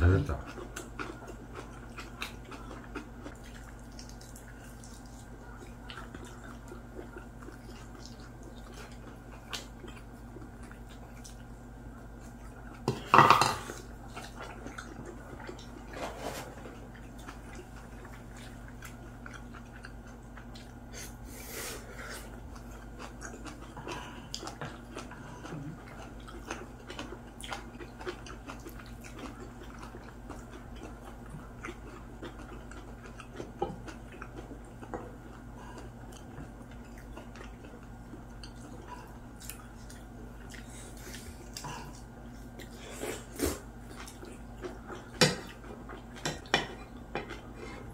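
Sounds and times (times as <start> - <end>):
faint chewing: 0.0 - 47.9
steady low hum: 0.0 - 47.9.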